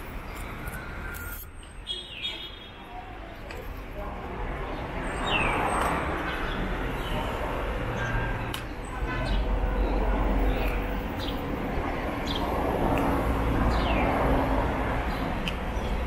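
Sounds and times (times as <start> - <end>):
low street hum: 0.0 - 16.0.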